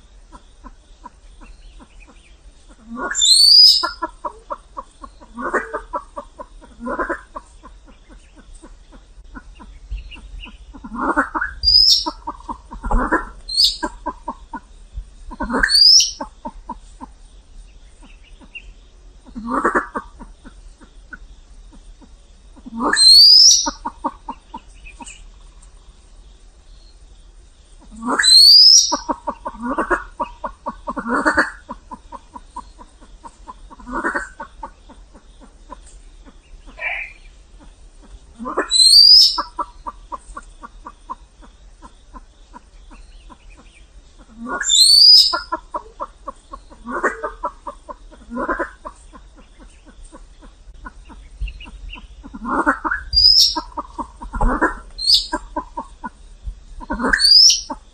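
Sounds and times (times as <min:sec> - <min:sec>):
pheasants rattling calls: 0:00.0 - 0:57.9.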